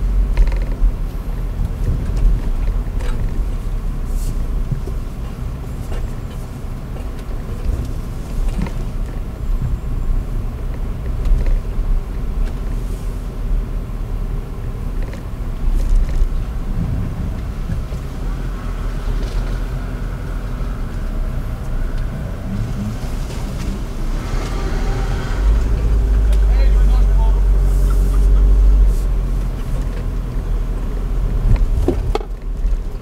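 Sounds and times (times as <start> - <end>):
engine and tyres rumbling: 0.0 - 33.0.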